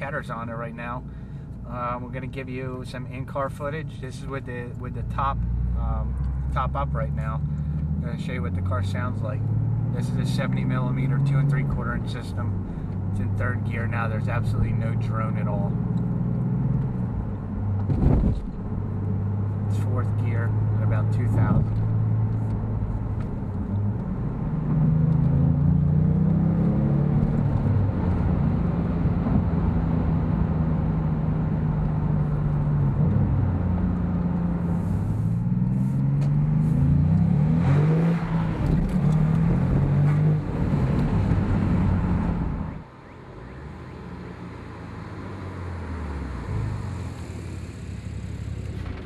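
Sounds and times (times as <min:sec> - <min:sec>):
car engine heard from cabin: 0:00.0 - 0:49.0.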